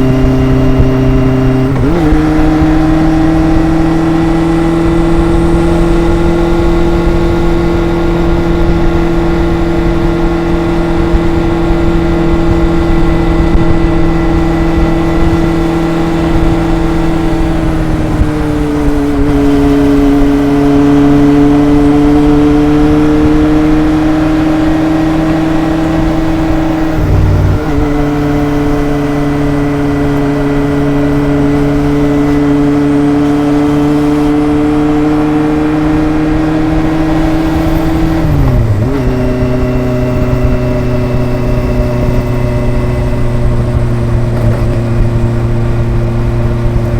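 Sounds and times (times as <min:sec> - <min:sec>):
motorcycle exhaust: 0:00.0 - 0:46.9.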